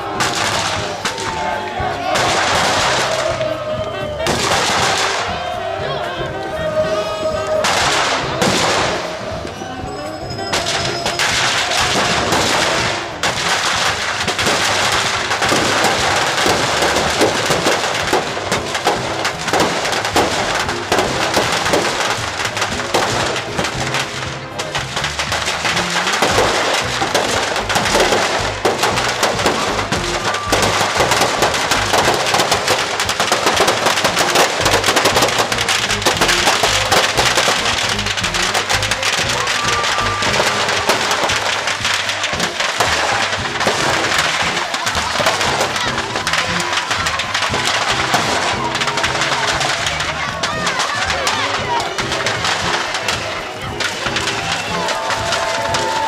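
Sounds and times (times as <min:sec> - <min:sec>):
firecrackers crackling and popping: 0:00.0 - 0:56.0
music: 0:00.0 - 0:56.0.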